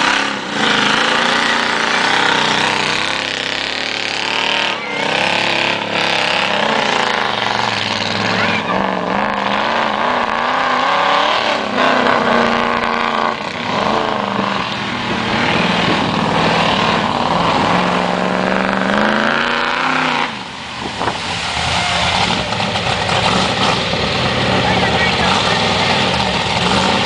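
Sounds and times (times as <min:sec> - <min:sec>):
vee eight engine revving: 0:00.0 - 0:27.0.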